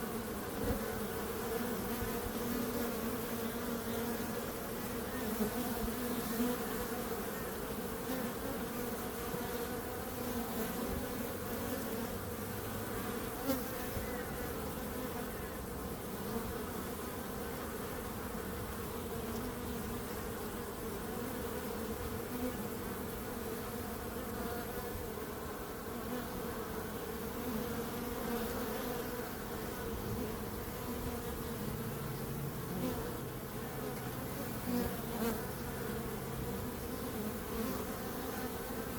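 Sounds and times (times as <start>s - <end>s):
swarm of bees buzzing: 0.0s - 38.9s.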